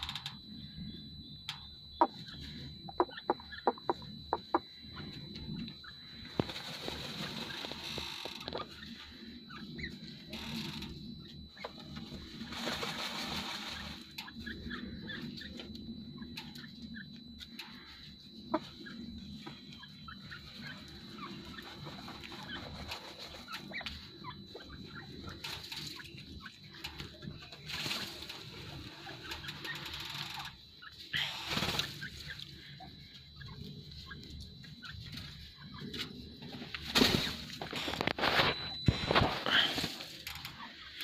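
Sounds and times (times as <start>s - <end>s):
francolins clucking softly: 0.0s - 41.0s
scratching and rustling in dry dirt: 2.0s - 41.0s.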